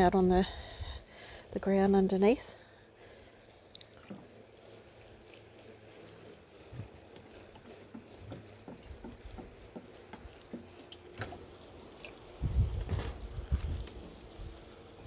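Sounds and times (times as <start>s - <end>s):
small water drips: 0.0s - 15.0s
watering can sprinkling water: 0.0s - 15.0s.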